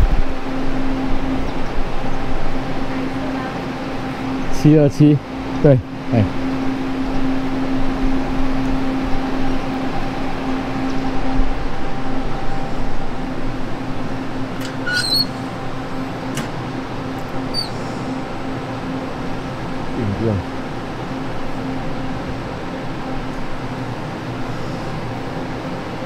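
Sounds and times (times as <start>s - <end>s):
train hum at platform: 0.0s - 26.0s
platform noise: 0.8s - 23.4s.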